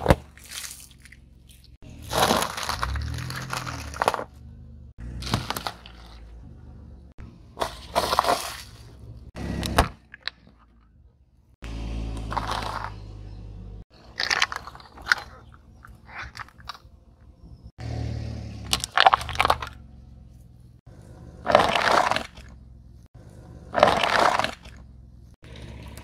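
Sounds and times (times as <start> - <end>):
tyre crunching objects on asphalt: 0.0 - 10.4, 11.6 - 16.9, 17.8 - 26.0
low car engine hum: 0.0 - 26.0.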